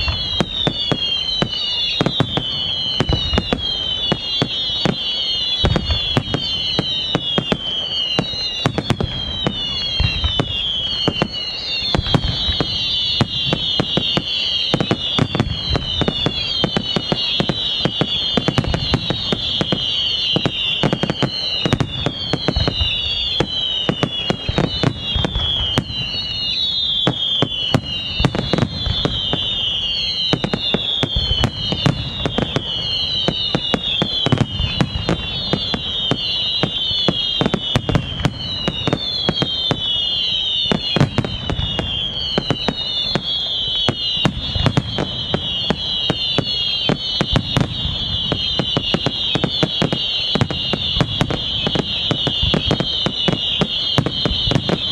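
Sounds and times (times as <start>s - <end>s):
fireworks bangs: 0.0s - 54.9s
whistling firework shells: 0.0s - 54.9s.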